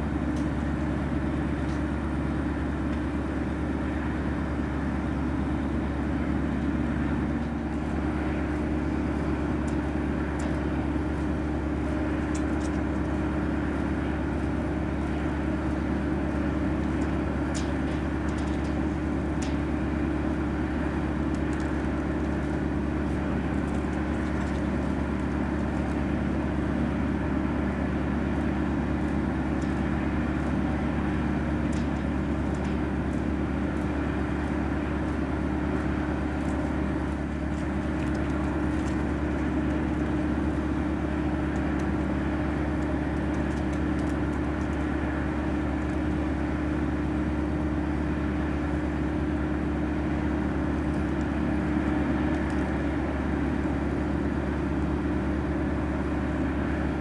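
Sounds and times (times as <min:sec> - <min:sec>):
auxiliary power unit humming: 0:00.0 - 0:57.0.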